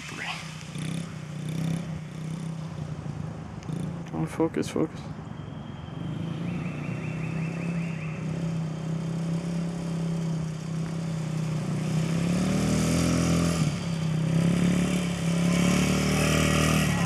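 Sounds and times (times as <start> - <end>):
dirt bike engine running: 0.0 - 4.4, 5.9 - 17.0.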